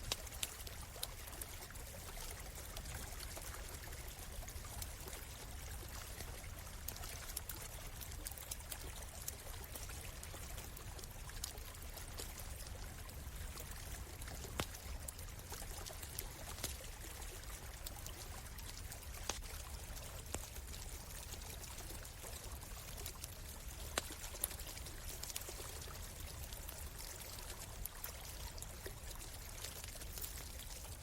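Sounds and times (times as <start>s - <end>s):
campfire crackling and popping: 0.0s - 31.0s
stream water trickling: 0.0s - 31.0s.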